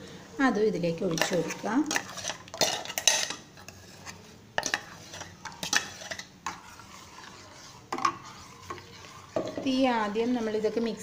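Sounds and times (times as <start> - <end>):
spoon stirring in saucepan: 0.4 - 11.0.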